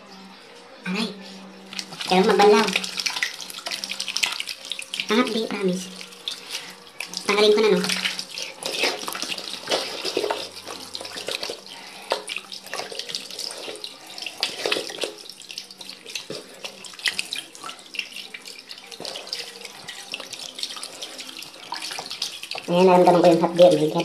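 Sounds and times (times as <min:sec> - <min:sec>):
tap water running into sink: 0:01.7 - 0:24.0
water splashing on face: 0:01.7 - 0:24.0.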